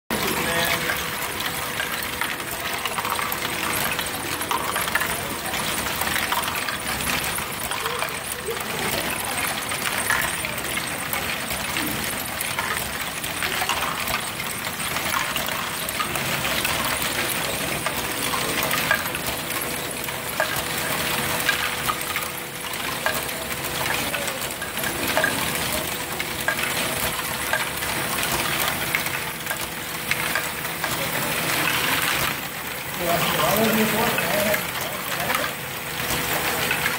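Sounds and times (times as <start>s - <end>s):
plastic balls clattering: 0.1s - 36.9s
steady motor hum: 0.1s - 36.9s.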